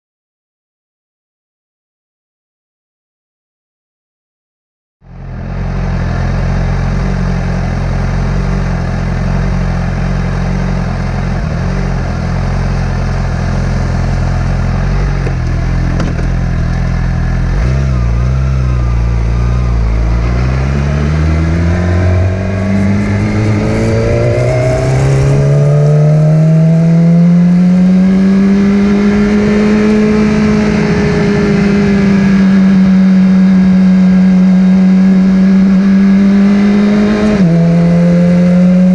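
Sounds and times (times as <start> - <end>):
motorcycle engine running: 5.0 - 38.9.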